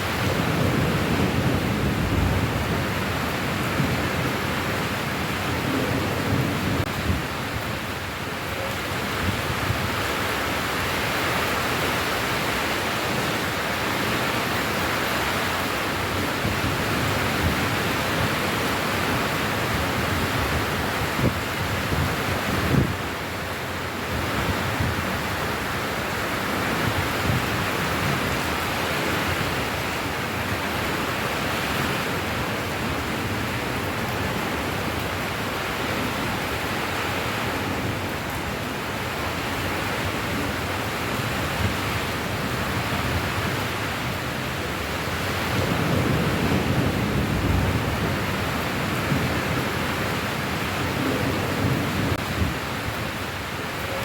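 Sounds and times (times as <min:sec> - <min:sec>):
dense rain: 0:00.0 - 0:54.0.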